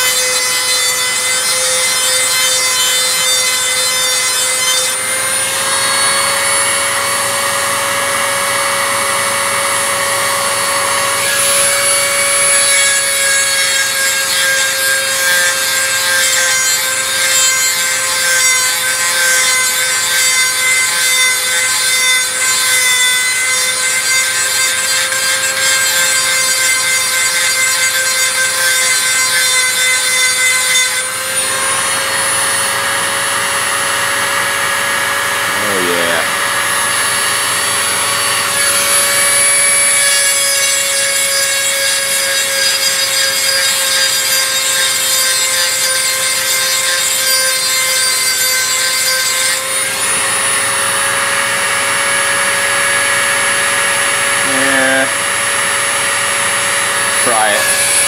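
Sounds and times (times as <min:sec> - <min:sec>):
abrasive bit grinding metal: 0:00.0 - 0:58.0
rotary tool motor whine: 0:00.0 - 0:58.0.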